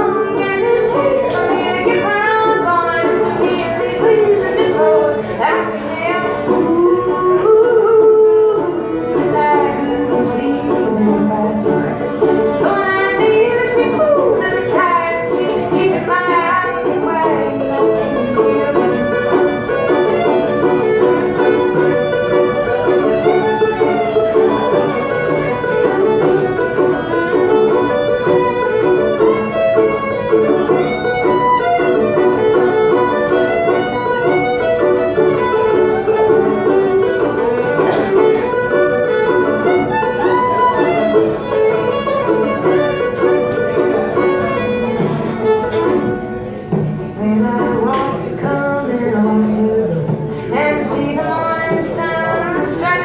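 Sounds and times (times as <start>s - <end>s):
fiddle melody with sliding notes: 0.0s - 53.0s
picked banjo accompaniment: 0.0s - 53.0s.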